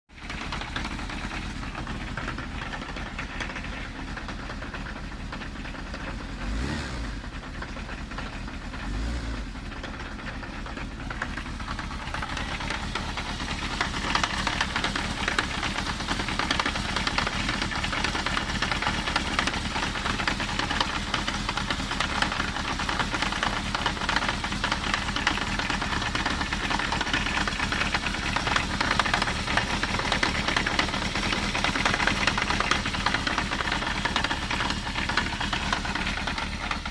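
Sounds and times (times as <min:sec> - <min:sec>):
motorcycle engine clattering: 0:00.1 - 0:36.9.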